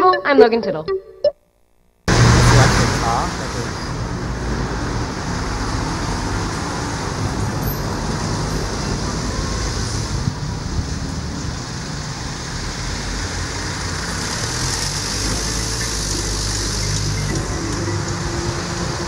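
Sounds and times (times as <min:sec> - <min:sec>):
road traffic rumble and hiss: 0:02.1 - 0:19.0.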